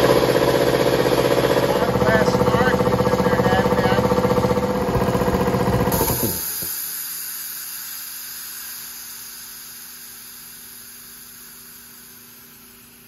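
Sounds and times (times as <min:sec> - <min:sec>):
air compressor shutting off: 0:00.0 - 0:13.0.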